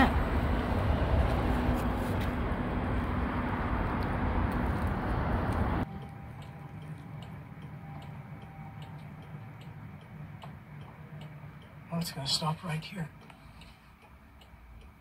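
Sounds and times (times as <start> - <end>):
street and wind noise: 0.0 - 15.0
turn signal ticking: 2.4 - 15.0.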